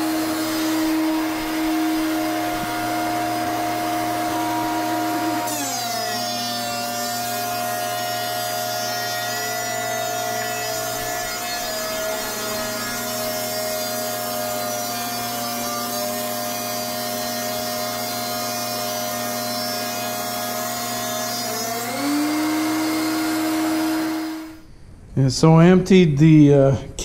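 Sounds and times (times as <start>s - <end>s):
planer cutting wood: 0.0s - 24.6s
thickness planer whine: 0.0s - 24.7s.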